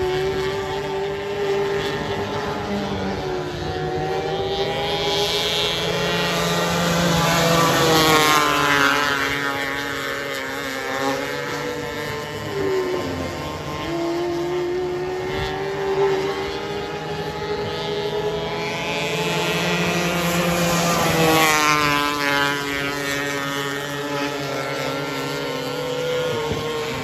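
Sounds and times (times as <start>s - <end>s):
race car engines: 0.0s - 27.0s.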